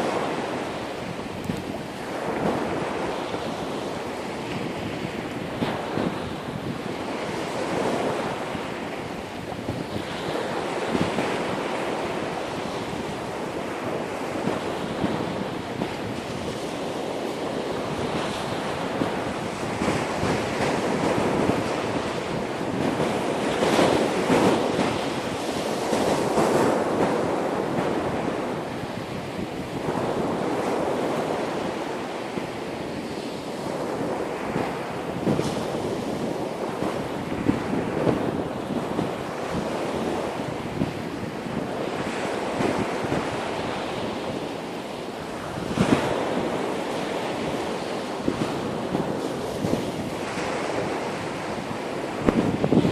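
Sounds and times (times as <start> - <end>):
ocean surf breaking on shore: 0.0 - 52.9
wind buffeting microphone: 0.0 - 52.9.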